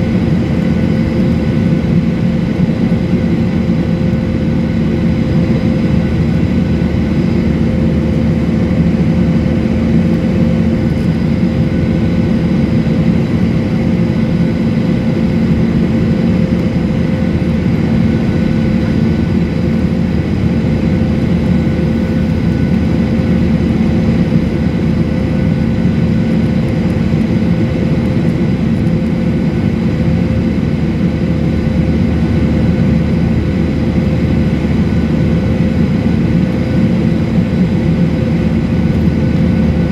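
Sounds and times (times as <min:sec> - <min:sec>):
constant hums: 0:00.0 - 0:39.9
jet engines and rushing air: 0:00.0 - 0:39.9.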